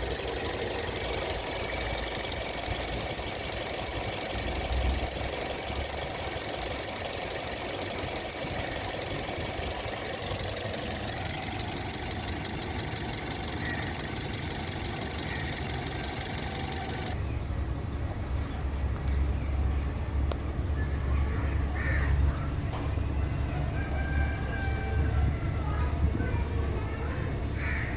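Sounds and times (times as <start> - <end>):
car engine idling: 0.0 - 17.2, 18.8 - 27.9.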